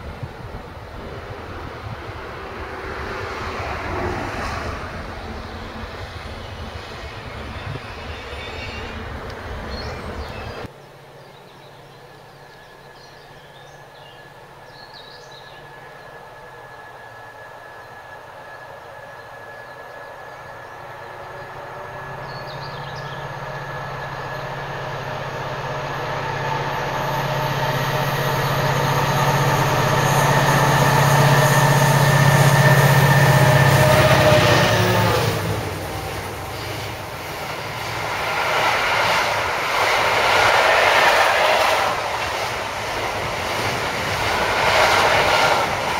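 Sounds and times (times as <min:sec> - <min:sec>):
diesel locomotives droning and whining: 0:00.0 - 0:45.9.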